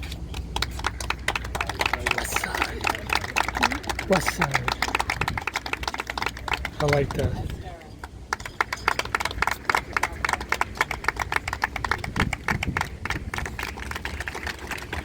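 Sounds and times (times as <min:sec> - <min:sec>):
people clapping: 0:00.0 - 0:15.0.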